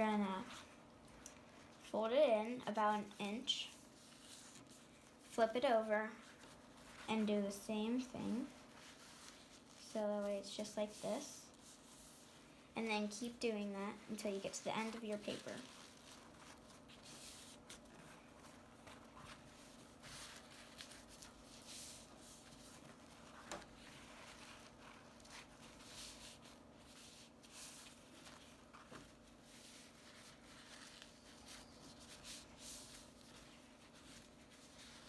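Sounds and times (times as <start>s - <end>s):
paper towel rustling: 0.0s - 35.0s.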